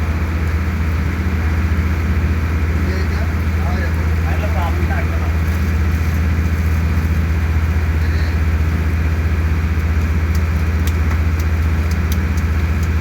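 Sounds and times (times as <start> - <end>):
ferry diesel engine droning: 0.0 - 13.0.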